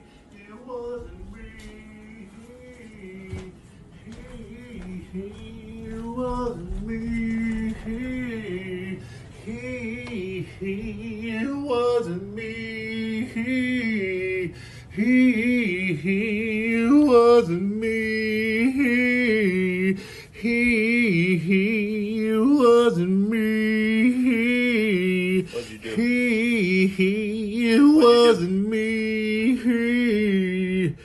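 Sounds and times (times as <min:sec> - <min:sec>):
person singing slow melody: 0:00.0 - 0:31.0.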